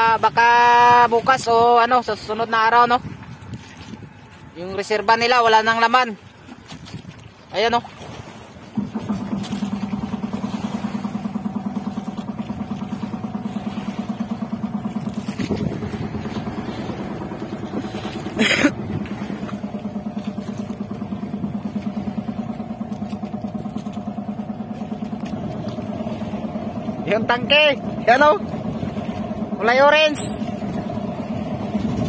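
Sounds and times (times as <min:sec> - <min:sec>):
boat engine pulsing: 0:00.0 - 0:32.0.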